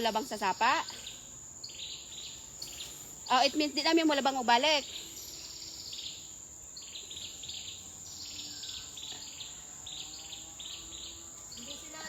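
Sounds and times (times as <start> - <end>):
high-pitched insect whine: 0.0 - 12.0
insects chirping: 0.0 - 12.0.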